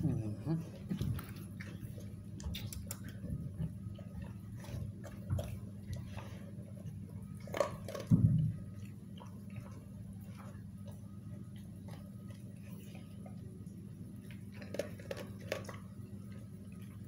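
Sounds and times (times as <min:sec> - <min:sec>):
dog chewing and crunching food: 0:00.0 - 0:17.0
steady low hum: 0:00.0 - 0:17.0.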